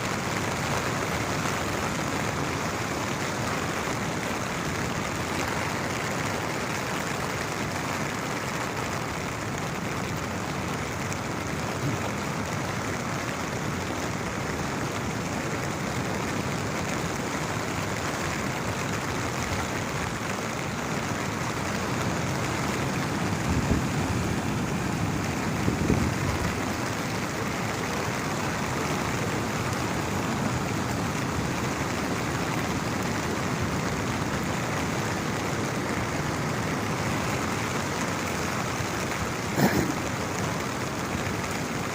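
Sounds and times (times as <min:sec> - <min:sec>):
rain hissing: 0:00.0 - 0:41.9.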